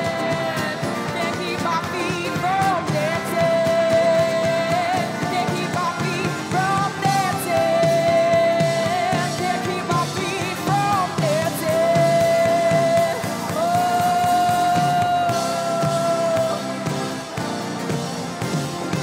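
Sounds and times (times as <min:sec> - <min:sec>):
woman singing: 0:00.0 - 0:17.2
live band playing: 0:00.0 - 0:19.0.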